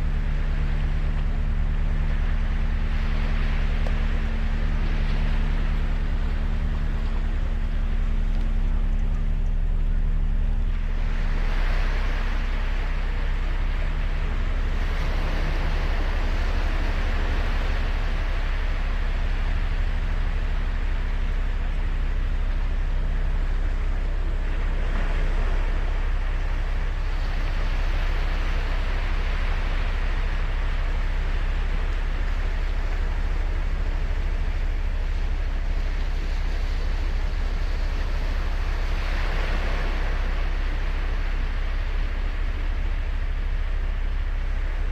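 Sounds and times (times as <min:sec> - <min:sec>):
waves breaking on beach: 0:00.0 - 0:09.0, 0:10.6 - 0:22.8, 0:23.4 - 0:44.9
faint low hum: 0:00.0 - 0:44.9
low rumble: 0:00.0 - 0:44.9.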